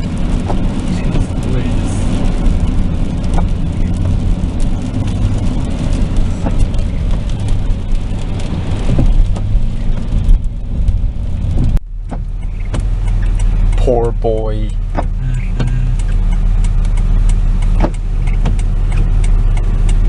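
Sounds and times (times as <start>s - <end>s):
engine and tyres drone: 0.0s - 20.0s
rain hiss: 0.0s - 20.0s.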